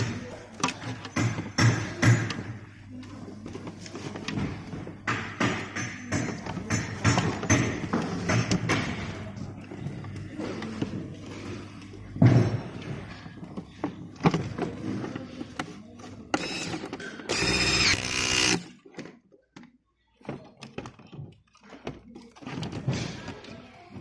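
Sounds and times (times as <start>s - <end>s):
knocks and clunks of parts: 0.0s - 2.7s, 3.6s - 9.4s, 12.1s - 15.8s, 16.4s - 24.0s.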